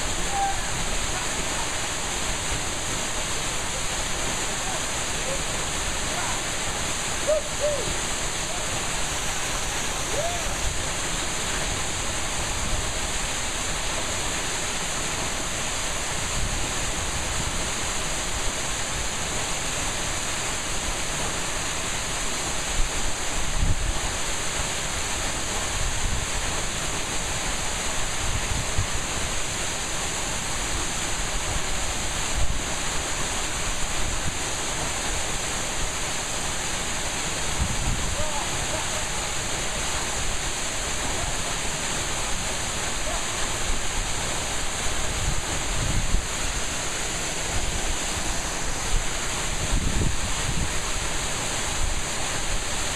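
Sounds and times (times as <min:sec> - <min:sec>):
waterfall pouring into pool: 0:00.0 - 0:52.9.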